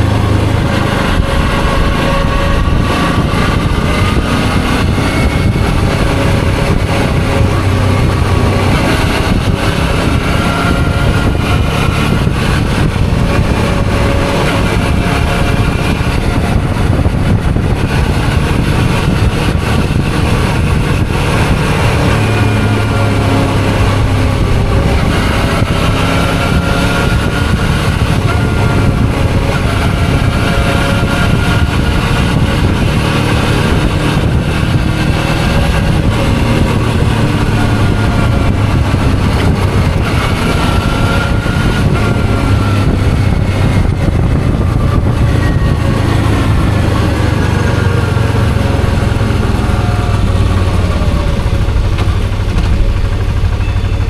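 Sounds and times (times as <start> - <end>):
motorcycle engine running: 0.0 - 54.0
steady low rumble: 0.0 - 54.0.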